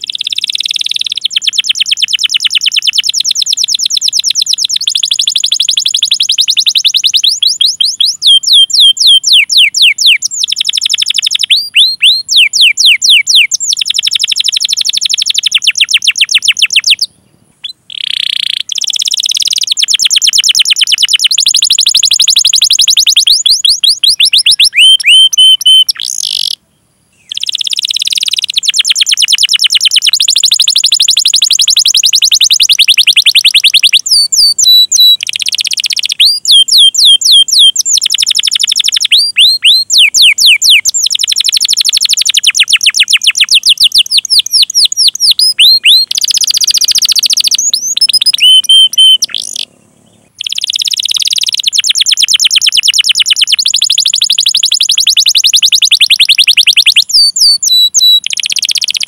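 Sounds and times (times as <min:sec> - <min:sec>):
canary singing trills and chirps: 0:00.0 - 0:26.6, 0:27.2 - 0:59.0.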